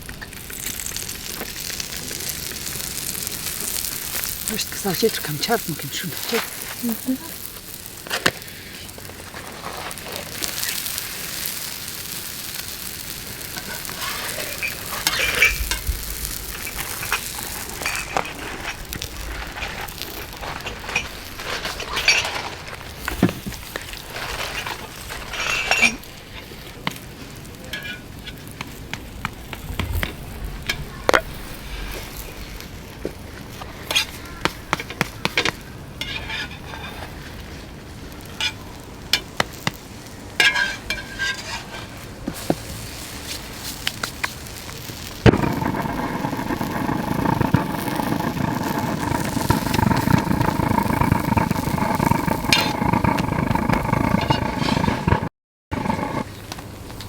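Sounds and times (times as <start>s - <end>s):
flatbread sizzling in oil: 0.0s - 57.0s.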